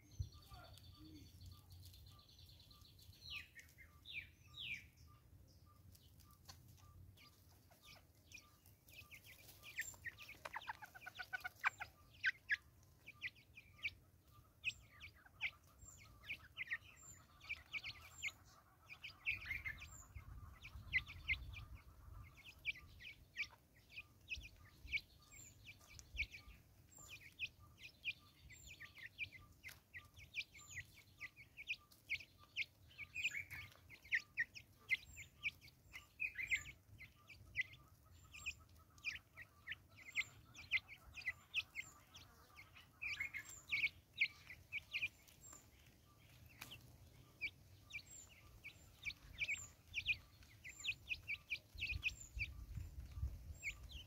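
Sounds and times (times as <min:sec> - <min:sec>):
birds clucking softly: 0:00.0 - 0:54.0
birds pecking on wood: 0:05.8 - 0:20.4, 0:22.3 - 0:54.0.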